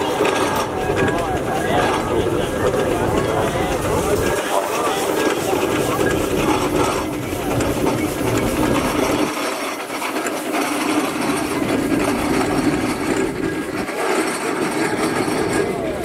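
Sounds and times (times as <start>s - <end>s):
steam engines clattering: 0.0s - 16.0s.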